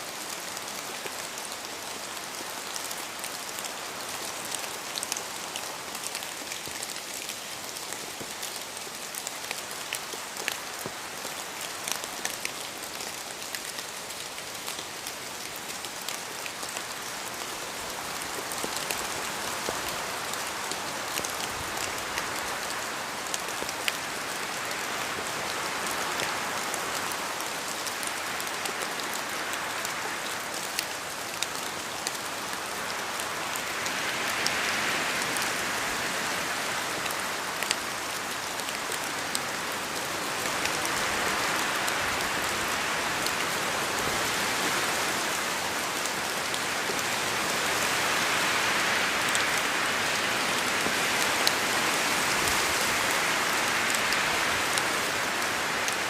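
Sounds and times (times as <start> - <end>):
rain falling in a forest: 0.0 - 56.0
wind: 0.0 - 56.0.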